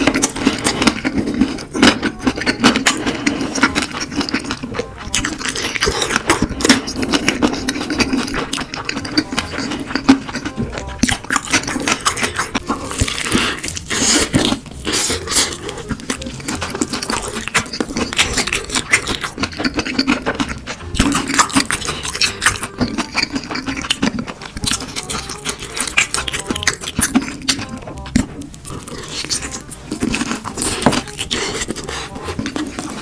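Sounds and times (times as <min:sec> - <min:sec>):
crunching and chewing: 0:00.0 - 0:33.0.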